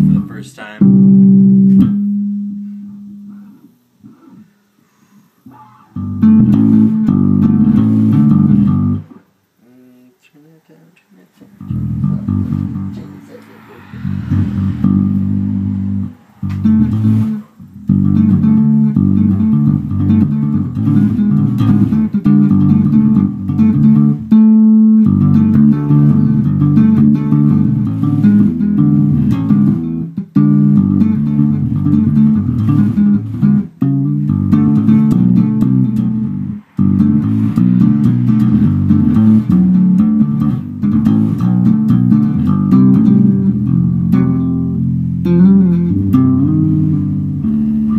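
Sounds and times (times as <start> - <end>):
funk electric bass guitar: 0.0 - 4.5, 5.4 - 9.2, 11.6 - 47.9.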